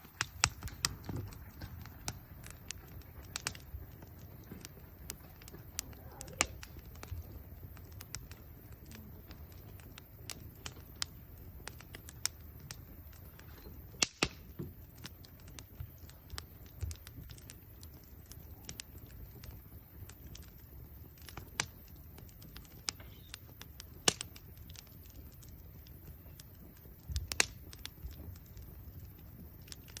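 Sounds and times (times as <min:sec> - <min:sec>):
campfire crackling: 0:00.0 - 0:30.0
loud fire pops: 0:00.0 - 0:30.0.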